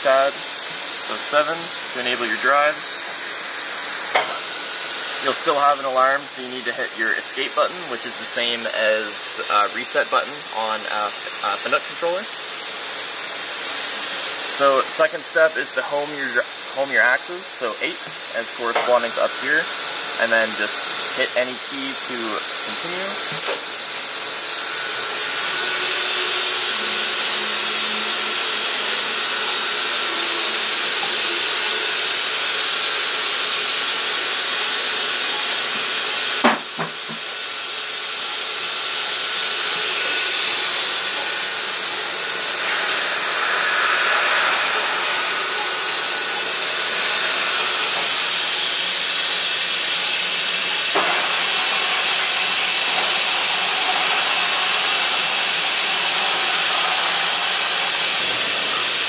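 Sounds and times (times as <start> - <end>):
machining centre hiss: 0.0 - 59.0.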